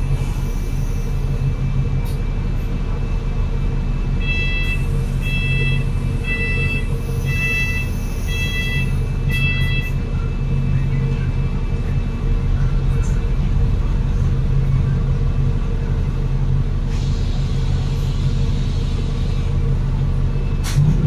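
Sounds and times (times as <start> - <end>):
bus diesel engine humming: 0.0 - 21.0.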